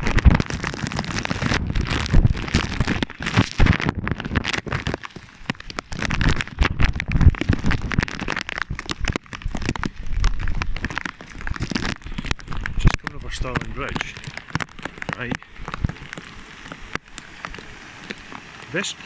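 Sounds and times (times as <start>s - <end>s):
heavy rain on plastic bag: 0.0s - 19.0s.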